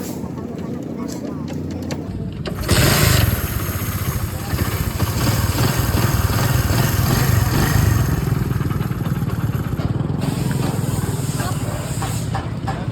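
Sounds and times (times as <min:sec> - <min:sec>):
motorcycle engine running: 0:02.1 - 0:12.9.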